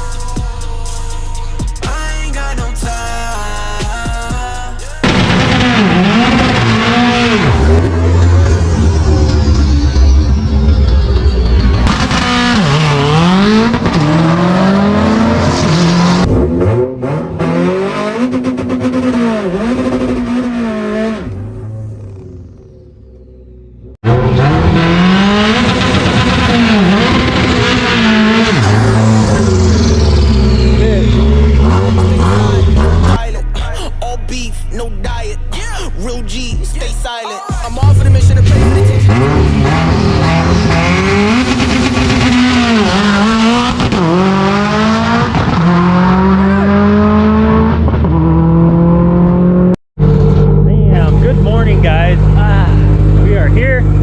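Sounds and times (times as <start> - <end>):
car engine under full throttle: 4.9 - 37.1, 37.7 - 54.0.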